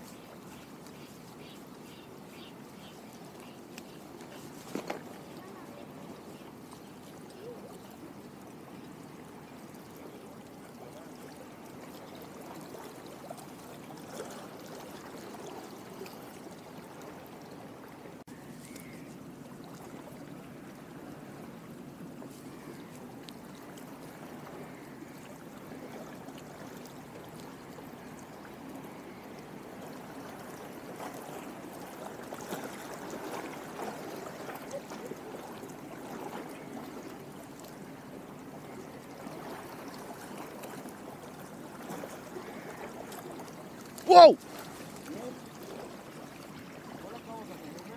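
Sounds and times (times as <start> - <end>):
seawater lapping: 0.0 - 47.9.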